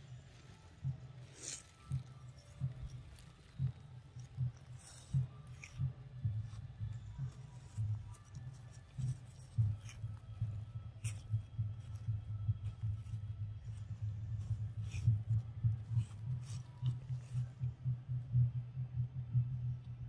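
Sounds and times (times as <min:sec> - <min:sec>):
low pulsing rumble: 0:00.0 - 0:20.0.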